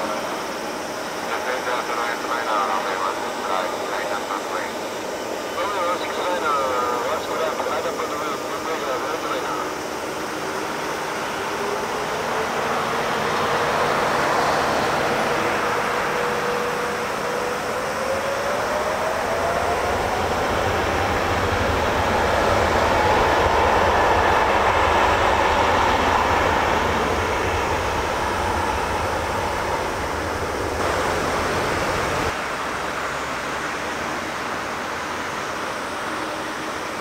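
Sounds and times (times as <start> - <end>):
jet engine whine: 0.0 - 37.0
jet engines running: 0.0 - 37.0.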